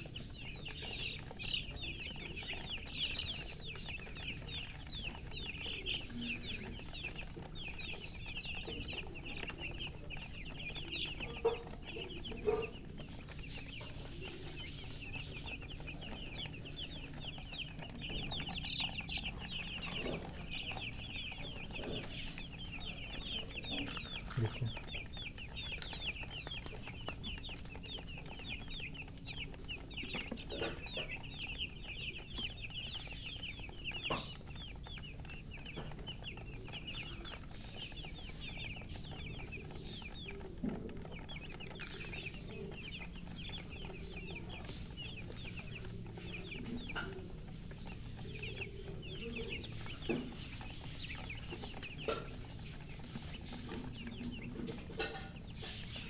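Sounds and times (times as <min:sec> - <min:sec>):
baby chicks peeping: 0:00.0 - 0:56.0.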